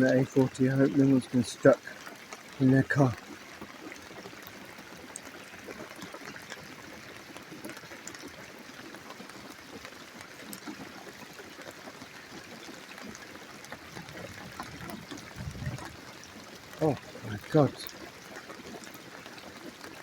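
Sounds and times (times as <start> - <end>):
rain falling steadily: 0.0 - 20.0
small water drips: 0.0 - 20.0
water pouring and trickling: 0.0 - 20.0.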